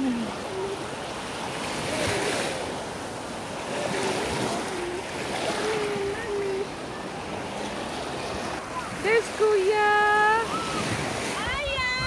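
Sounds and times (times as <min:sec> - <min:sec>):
faint voices: 0:00.0 - 0:12.0
small waves washing on sand: 0:00.0 - 0:12.0.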